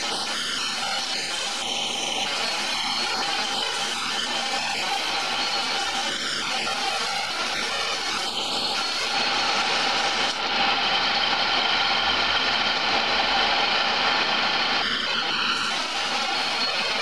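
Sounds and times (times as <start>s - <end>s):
lathe motor hum: 0.0s - 17.0s
tool hissing on turning wood: 0.0s - 17.0s.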